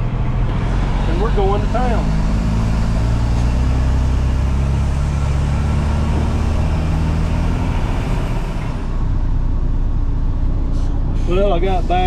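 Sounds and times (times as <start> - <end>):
diesel truck engine drone: 0.0 - 12.0.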